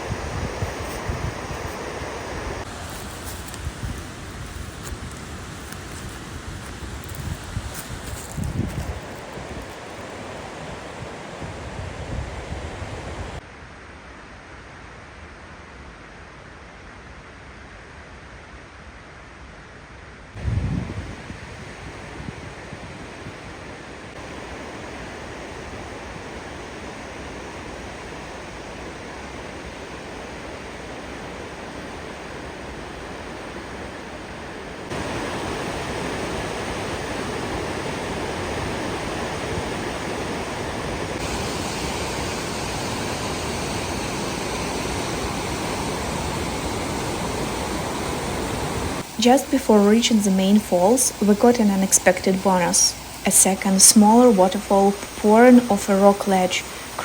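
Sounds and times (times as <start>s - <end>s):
river and waterfall rushing: 0.0s - 13.4s, 21.1s - 57.0s.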